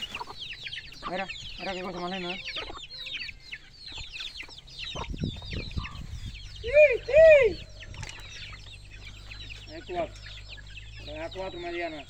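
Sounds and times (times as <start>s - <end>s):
chicken rise-and-fall calls: 0.0s - 12.0s
chicks peeping: 0.0s - 12.0s.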